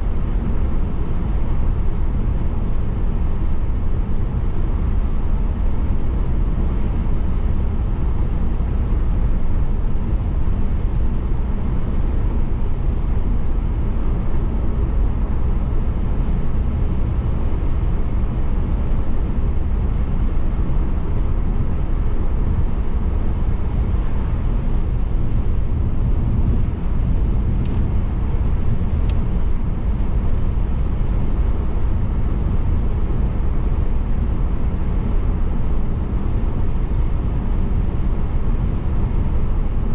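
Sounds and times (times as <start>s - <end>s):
car road and tyre noise: 0.0s - 39.9s.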